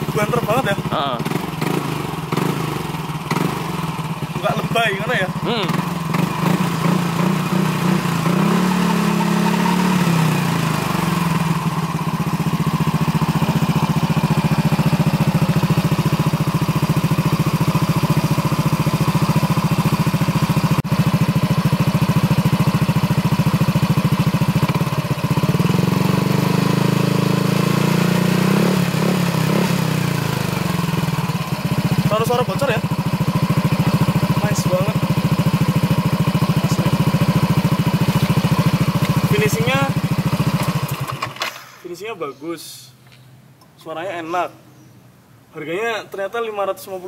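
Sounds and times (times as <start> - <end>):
scooter engine idling: 0.0 - 41.8.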